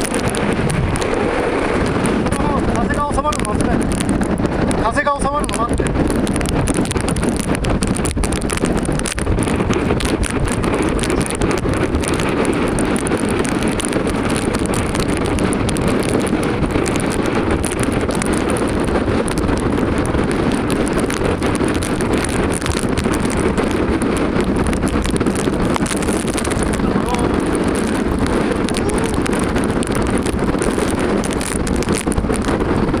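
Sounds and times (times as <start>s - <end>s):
strong wind buffeting microphone: 0.0s - 33.0s.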